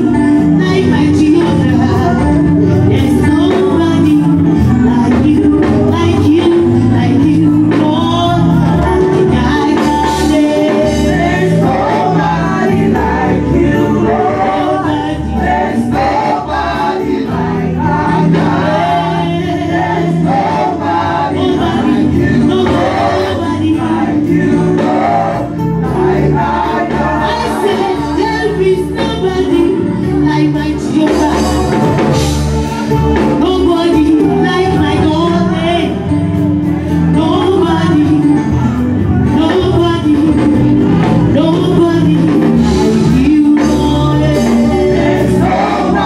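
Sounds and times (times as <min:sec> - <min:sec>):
gospel choir singing over a beat: 0:00.0 - 0:46.0.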